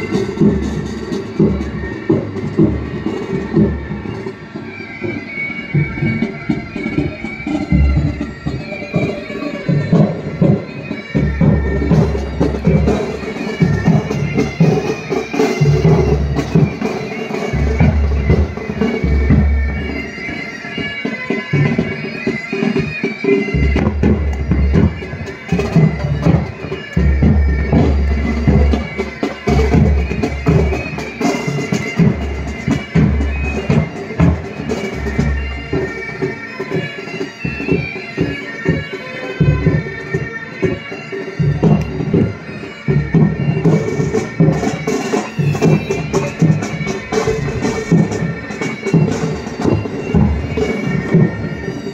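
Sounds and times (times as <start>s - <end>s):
bagpipes melody with drones: 0.0s - 51.9s
snare drums: 0.0s - 51.9s.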